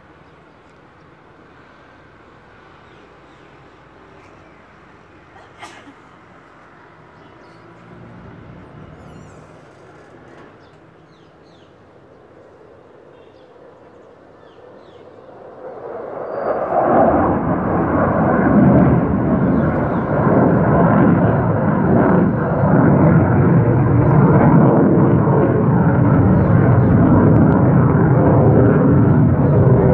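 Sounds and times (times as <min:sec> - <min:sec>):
jet engine roaring overhead: 0:00.0 - 0:29.9.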